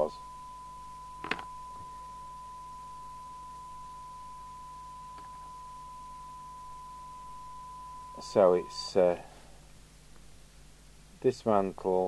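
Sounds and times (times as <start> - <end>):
steady test tone: 0.0 - 11.0.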